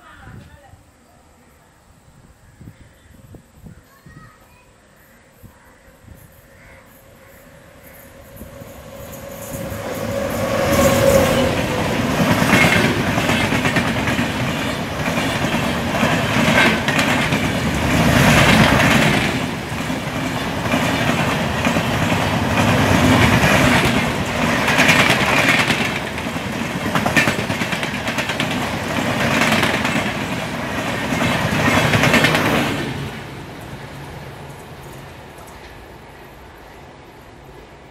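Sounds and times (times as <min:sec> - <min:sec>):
train wheels rumbling on rails: 0:07.3 - 0:37.9.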